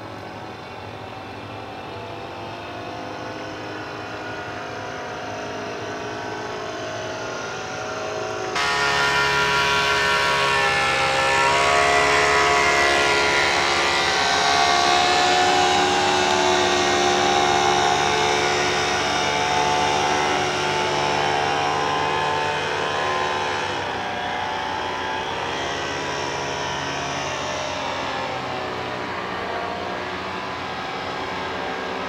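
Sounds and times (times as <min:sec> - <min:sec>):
paramotor engine droning: 0:00.0 - 0:32.0.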